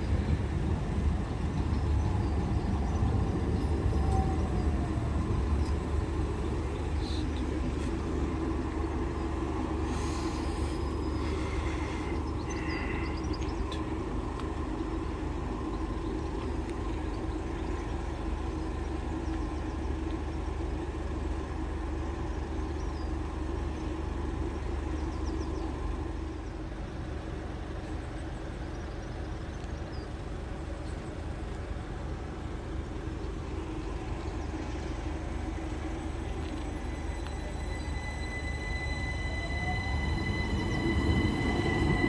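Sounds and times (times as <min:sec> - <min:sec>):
electric train humming: 0:00.0 - 0:42.0.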